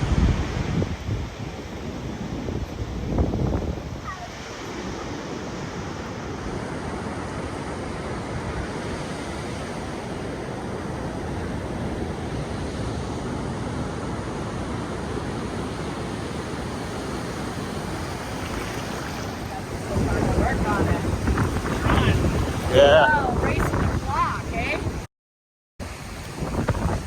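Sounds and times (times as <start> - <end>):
ocean surf rushing: 0.0 - 25.1, 25.8 - 27.0
wind: 0.0 - 25.1, 25.8 - 27.0.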